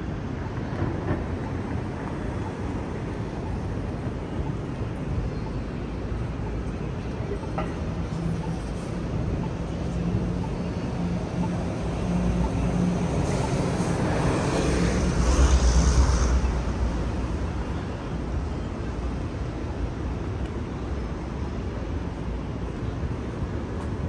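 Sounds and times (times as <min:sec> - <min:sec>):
engine hum of traffic: 0:00.0 - 0:24.0.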